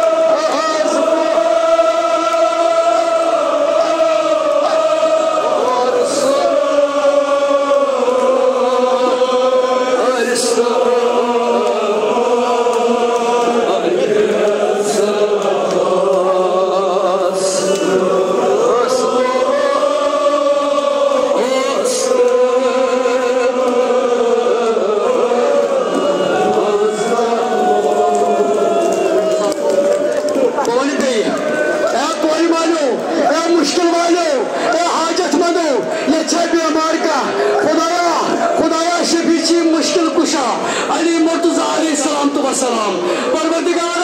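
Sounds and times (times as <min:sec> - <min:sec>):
men chanting together: 0:00.0 - 0:44.0.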